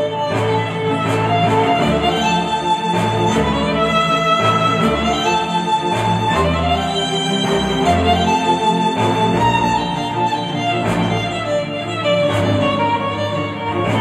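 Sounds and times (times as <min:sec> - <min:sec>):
violin and strings over a beat: 0:00.0 - 0:14.0.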